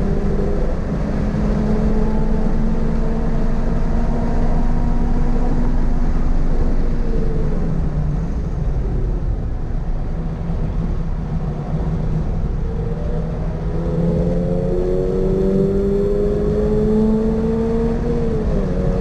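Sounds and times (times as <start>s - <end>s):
car engine at high revs: 0.0s - 19.0s
road and wind noise: 0.0s - 19.0s.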